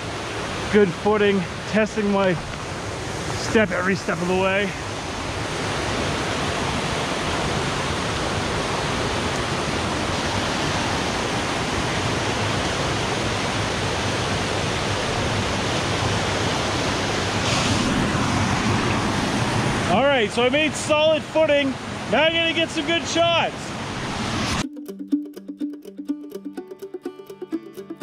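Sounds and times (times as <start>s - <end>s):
river and waterfall rushing: 0.0s - 24.6s.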